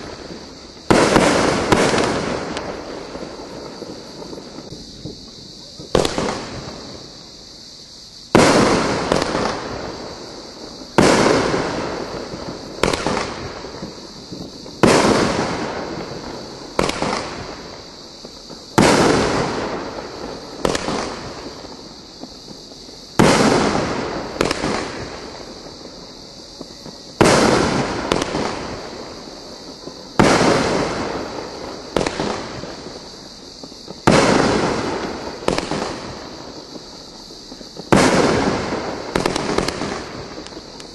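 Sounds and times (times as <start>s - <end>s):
firework bangs: 0.0s - 40.9s
small sharp firework reports: 0.0s - 40.9s.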